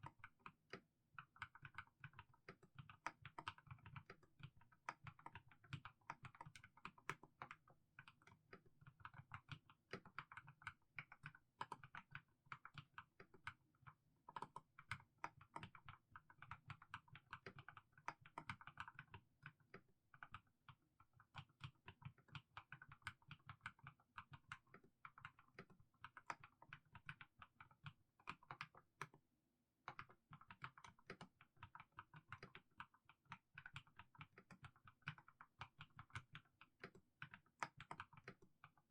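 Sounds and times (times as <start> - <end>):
soft mechanical keyboard typing: 0.0 - 29.2, 29.9 - 38.9.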